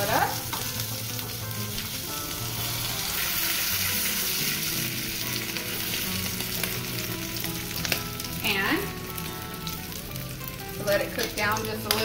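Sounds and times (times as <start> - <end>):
tortilla sizzling in hot oil: 0.0 - 12.0.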